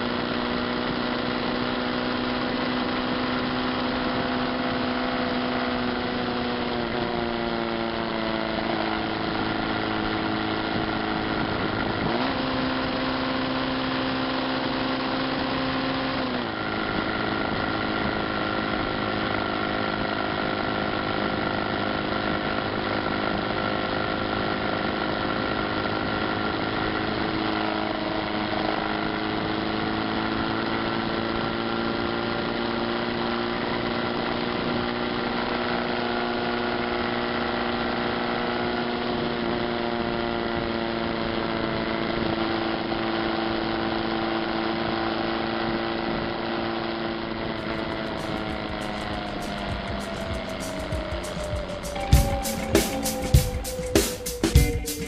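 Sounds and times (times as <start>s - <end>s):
road noise: 0.0s - 43.1s, 44.6s - 55.0s
motorcycle engine running: 0.0s - 44.2s, 46.0s - 55.0s.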